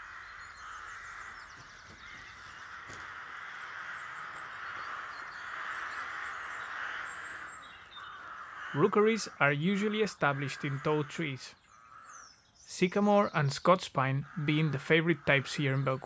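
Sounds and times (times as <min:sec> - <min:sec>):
flock of rooks cawing: 0:00.0 - 0:12.5, 0:14.1 - 0:16.0.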